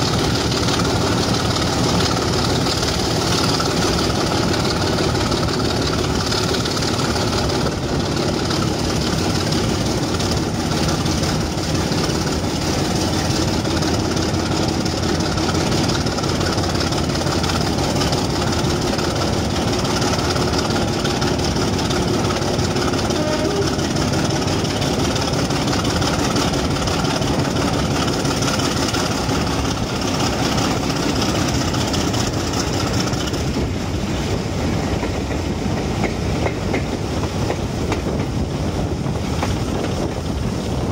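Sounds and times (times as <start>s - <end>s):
diesel locomotive engine working hard: 0.0s - 40.9s
train wheels clattering on rails: 0.0s - 40.9s.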